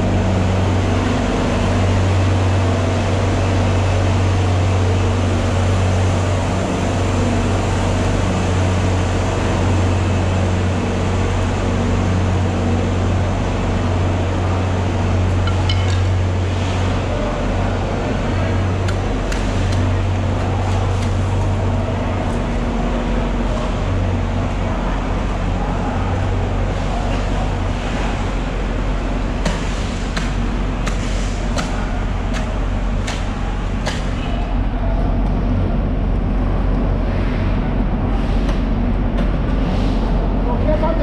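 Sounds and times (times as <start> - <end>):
idling machinery hum: 0.0 - 41.0.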